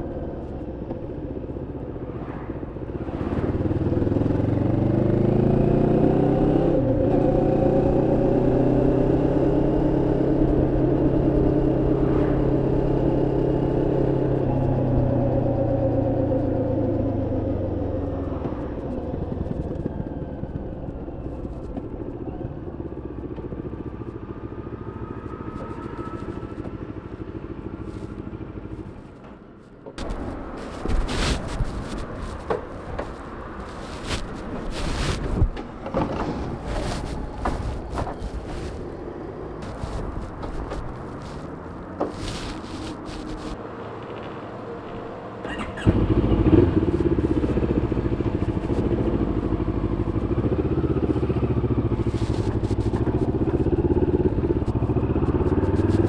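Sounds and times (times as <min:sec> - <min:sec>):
motorcycle engine accelerating: 0:00.0 - 0:29.4, 0:30.0 - 0:56.0.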